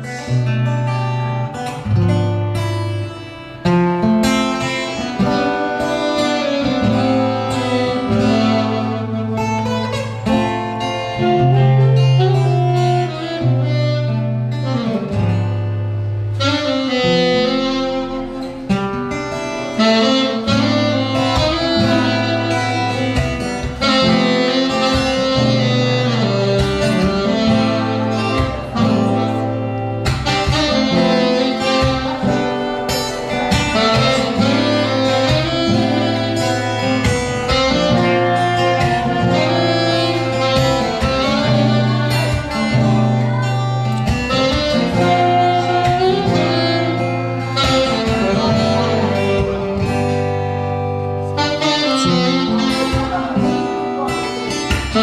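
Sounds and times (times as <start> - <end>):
acoustic guitar: 0.0 - 55.0
saxophone melody: 0.0 - 55.0.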